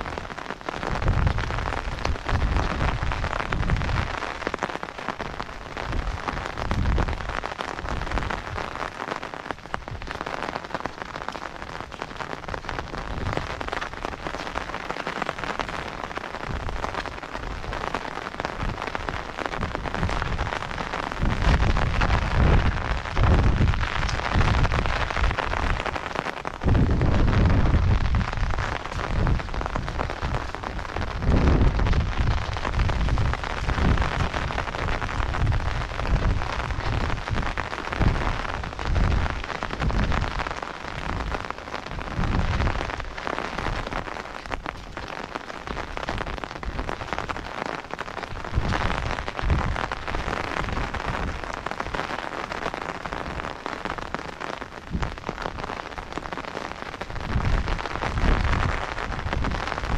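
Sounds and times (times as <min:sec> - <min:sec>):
wind buffeting microphone: 0:00.0 - 0:09.0, 0:11.6 - 0:47.5, 0:48.1 - 0:52.2, 0:53.0 - 0:59.9
steady rain hiss: 0:00.0 - 0:59.9.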